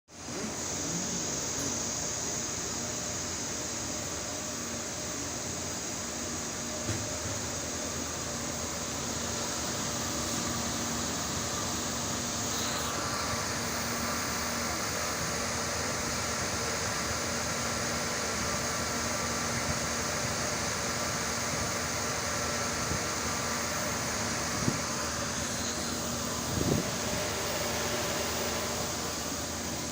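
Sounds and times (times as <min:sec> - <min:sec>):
cooling fans whirring: 0:00.1 - 0:29.9
electrical hum: 0:00.2 - 0:29.9.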